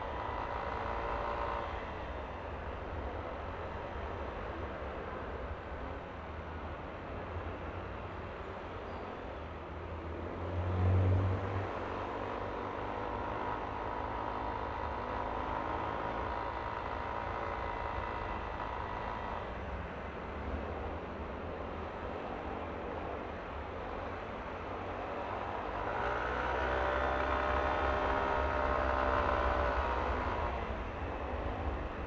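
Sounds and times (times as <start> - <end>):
road rumble: 0.0 - 32.0
wind: 0.0 - 32.0.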